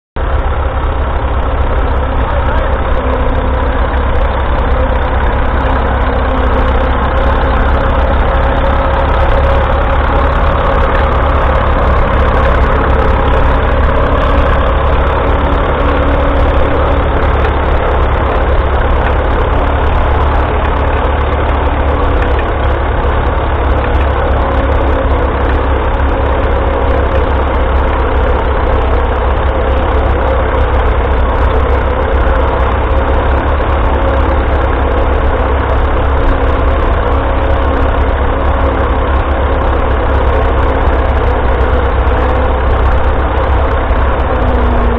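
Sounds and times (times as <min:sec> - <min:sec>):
tractor engine idling: 0:00.2 - 0:44.9.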